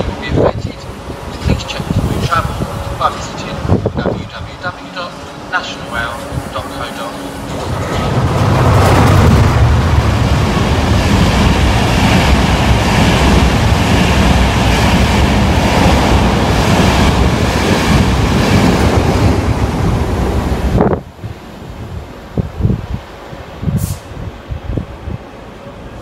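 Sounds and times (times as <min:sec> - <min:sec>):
wind buffeting microphone: 0:00.0 - 0:04.7, 0:06.1 - 0:25.3
train passing at speed: 0:00.0 - 0:26.0.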